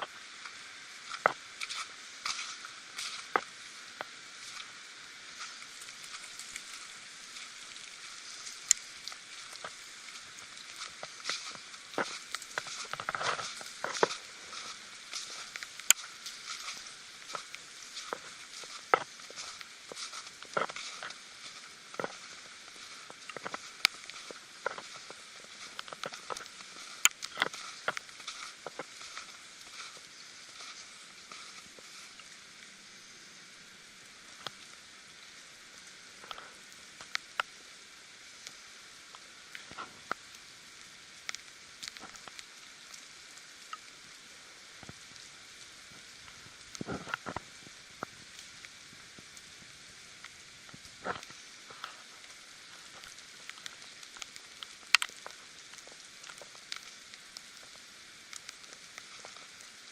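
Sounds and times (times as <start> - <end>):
sharp ticks and patters: 0.0 - 59.9
steady hiss: 0.0 - 59.9.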